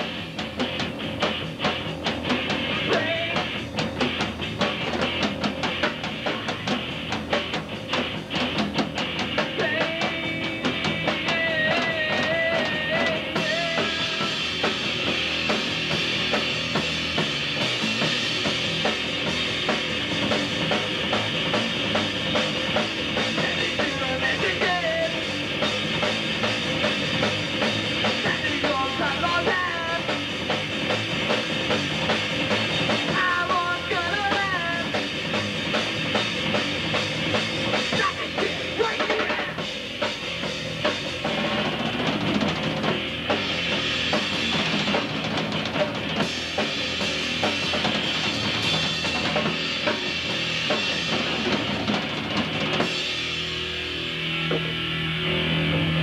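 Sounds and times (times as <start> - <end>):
fast drum beat: 0.0 - 54.8
punk band playing live: 0.0 - 56.0.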